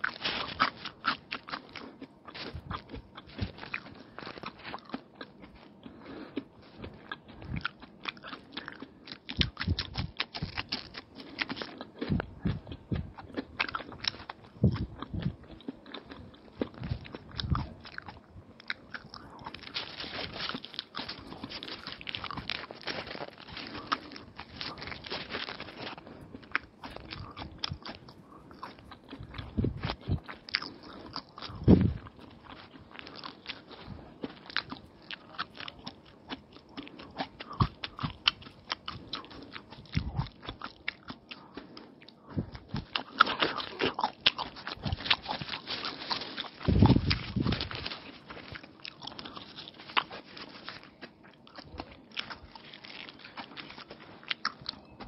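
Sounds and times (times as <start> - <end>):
chewing and biting food: 0.0 - 55.0.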